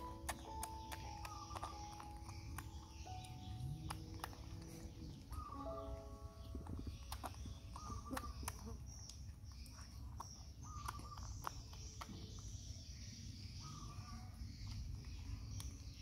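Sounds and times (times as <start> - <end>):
monkey chewing: 0.0 - 16.0.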